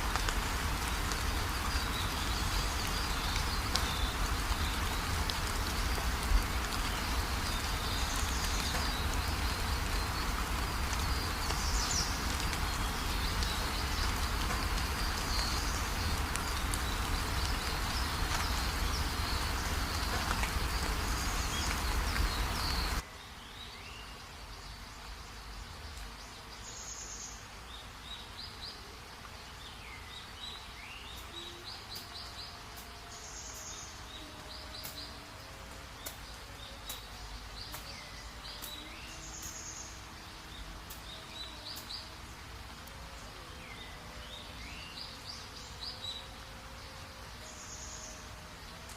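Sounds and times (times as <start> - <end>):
forest ambience: 0.0 - 48.9
heavy rain hissing: 0.0 - 48.9.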